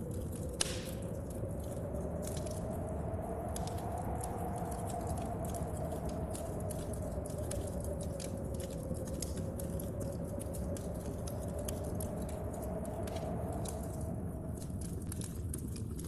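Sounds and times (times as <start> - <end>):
rain: 0.0 - 16.0
storm wind: 0.0 - 16.0
wood fire crackling and popping: 0.0 - 16.0.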